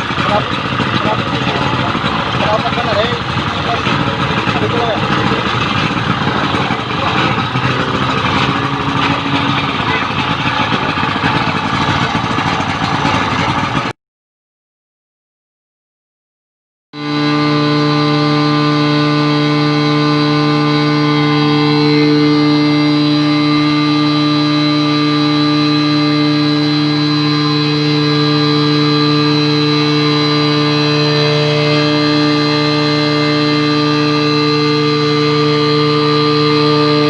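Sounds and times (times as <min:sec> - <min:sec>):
pump engine running steadily: 0:00.0 - 0:13.9, 0:17.0 - 0:37.0.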